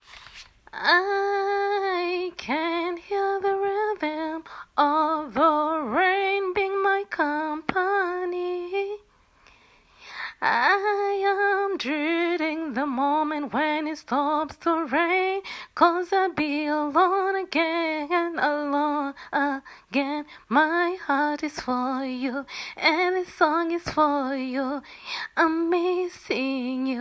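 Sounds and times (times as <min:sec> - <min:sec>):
woman singing a cappella: 0:00.7 - 0:09.1, 0:10.0 - 0:27.0.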